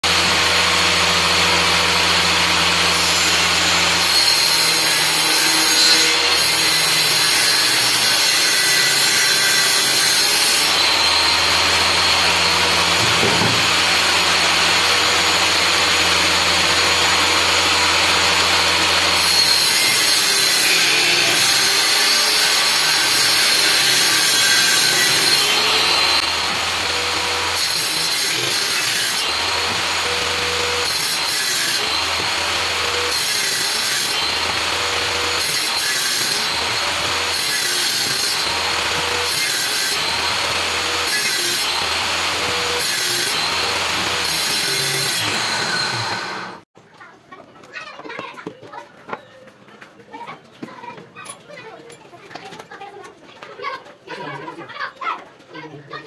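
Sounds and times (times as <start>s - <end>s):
power tool motor whine on wood: 0.1s - 46.6s.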